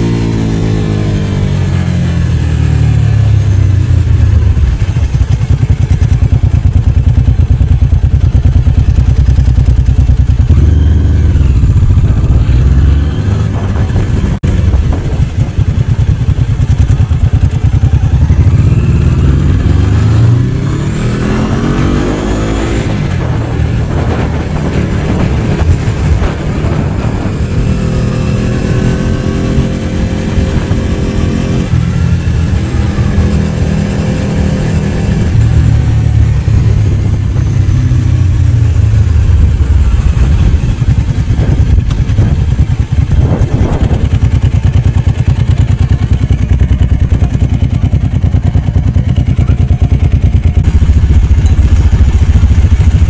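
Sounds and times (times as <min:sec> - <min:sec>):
motorcycle engine revving while riding: 0:00.0 - 0:53.0.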